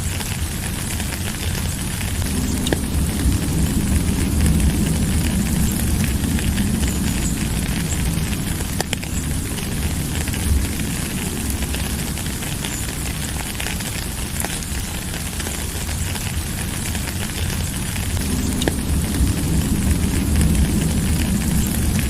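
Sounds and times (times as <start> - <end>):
deep low rumble: 0.0 - 22.0
rain falling: 0.0 - 22.0.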